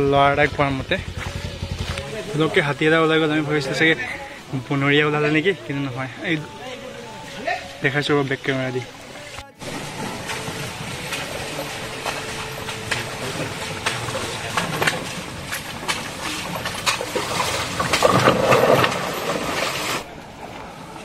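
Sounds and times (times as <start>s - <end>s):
water running in rocky stream: 0.0s - 21.0s.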